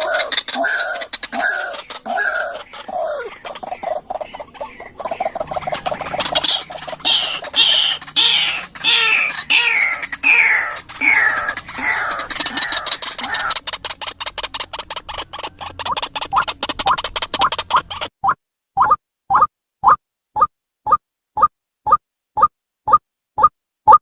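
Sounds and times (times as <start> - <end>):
bird calling falling notes: 0.0 - 20.0.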